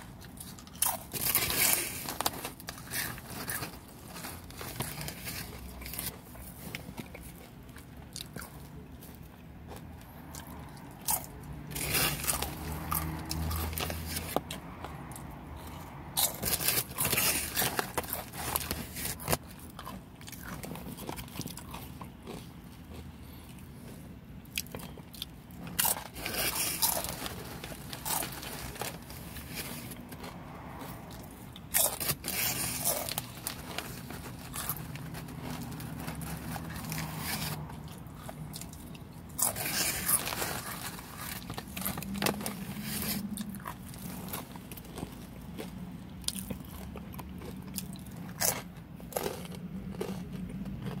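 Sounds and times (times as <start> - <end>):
tortilla chips crunching: 0.0 - 51.0
quiet chewing: 0.1 - 51.0.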